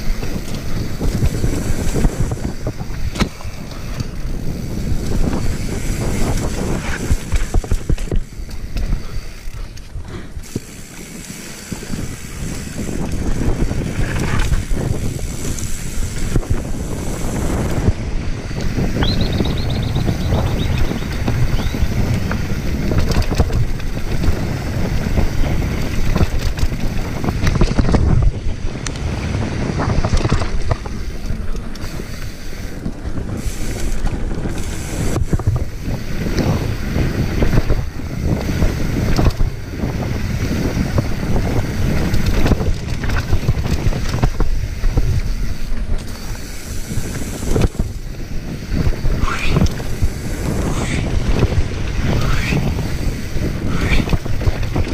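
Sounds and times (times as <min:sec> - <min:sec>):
bike knocking and rattling: 0:00.0 - 0:54.9
bike tyres rolling on dirt: 0:00.0 - 0:54.9
wind on microphone: 0:00.0 - 0:54.9.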